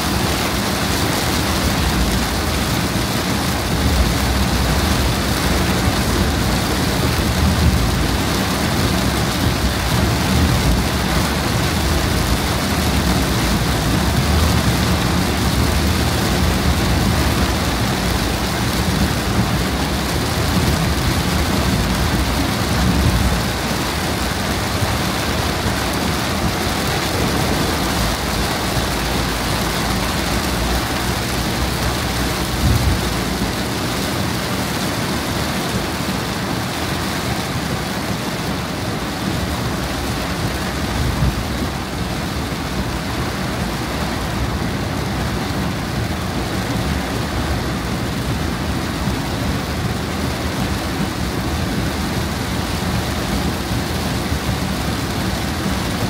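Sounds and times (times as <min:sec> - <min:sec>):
heavy rain drumming on car roof: 0:00.0 - 0:56.0
tyres rumbling on wet road: 0:00.0 - 0:56.0.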